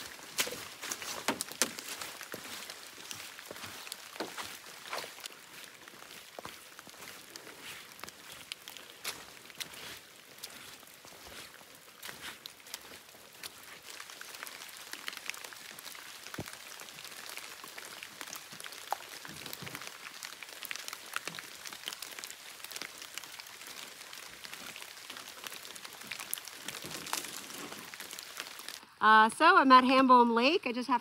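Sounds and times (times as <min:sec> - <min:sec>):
raindrops ticking nearby: 0:00.0 - 0:29.5
steady rain hiss: 0:00.0 - 0:31.0.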